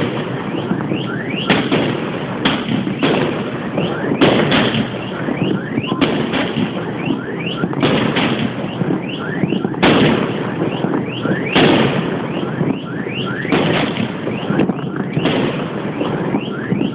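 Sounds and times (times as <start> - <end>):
fireworks crackling: 0.0 - 16.9
rising firework whistles: 0.0 - 16.9
sharp firework bangs: 0.0 - 16.9.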